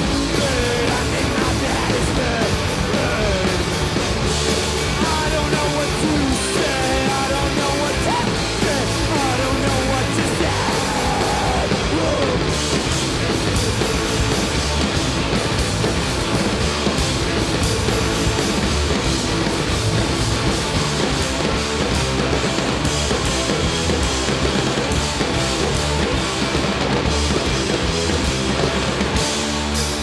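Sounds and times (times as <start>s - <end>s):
distorted electric guitars: 0.0s - 30.0s
drum kit: 0.0s - 30.0s
electric bass: 0.0s - 30.0s.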